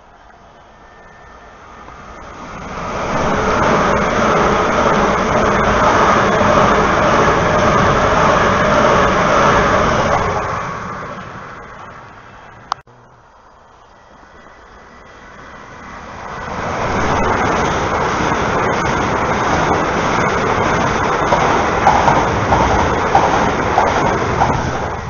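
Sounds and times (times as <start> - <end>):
passing train wheel rushing: 0.0 - 12.8, 14.0 - 25.0.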